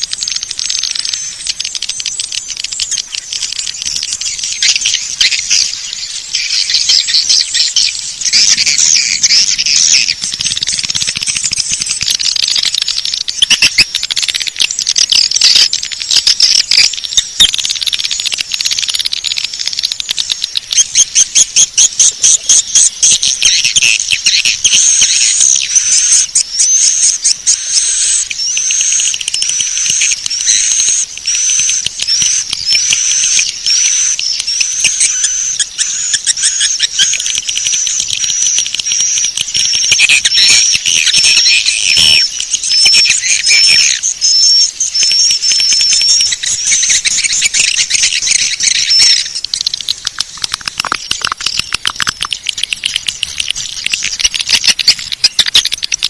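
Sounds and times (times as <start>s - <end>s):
swiftlets twittering and clicking: 0.0s - 56.0s.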